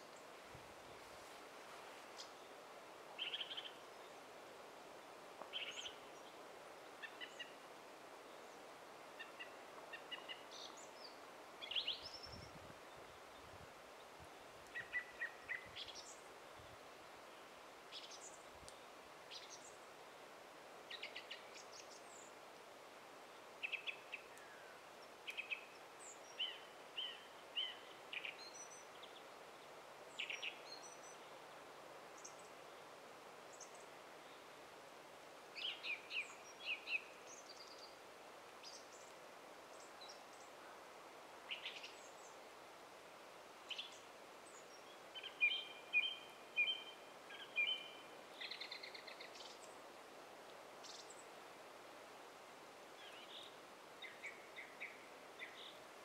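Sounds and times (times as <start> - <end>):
faint background hiss: 0.0 - 56.0
songbirds chirping: 0.0 - 56.0.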